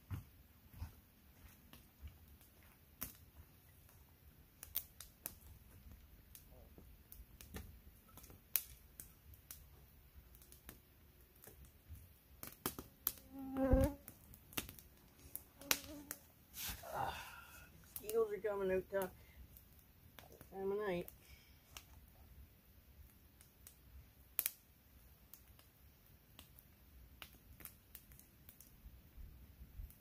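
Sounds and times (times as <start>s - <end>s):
campfire crackling: 0.0s - 30.0s
sharp snaps and pops: 1.4s - 17.2s, 19.0s - 30.0s.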